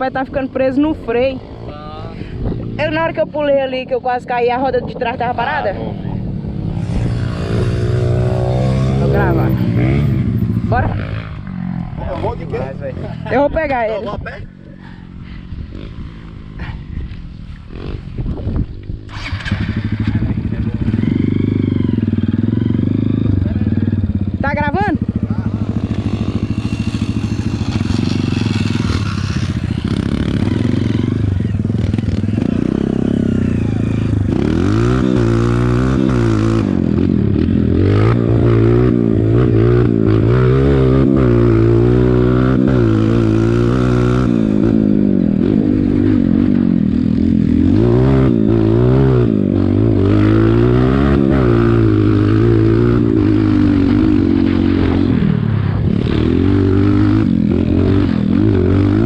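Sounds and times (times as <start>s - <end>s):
dirt bike engine revving: 0.0s - 13.8s, 17.6s - 59.0s.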